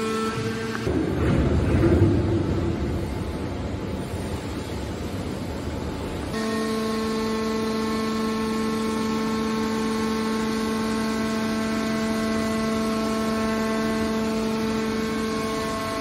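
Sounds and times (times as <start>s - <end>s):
hydraulic pump whine-hum: 0.0s - 16.0s.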